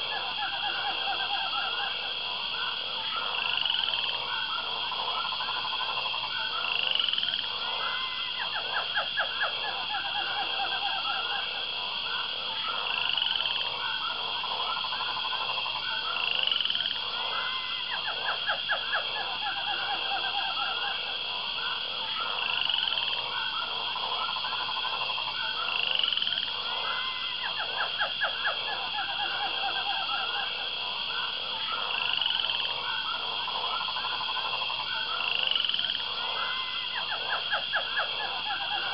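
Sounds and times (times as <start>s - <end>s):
frogs croaking: 0.0s - 38.9s
high insect buzz: 0.0s - 38.9s.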